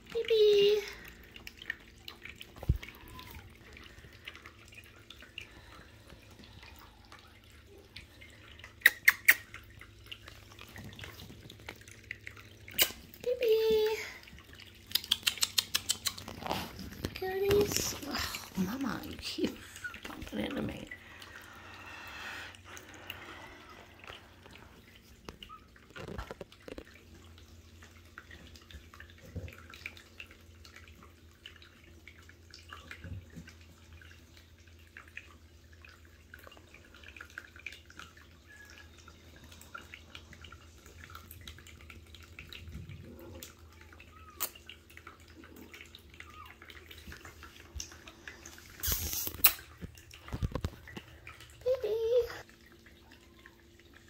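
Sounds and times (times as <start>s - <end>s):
low room hum: 0.0s - 54.0s.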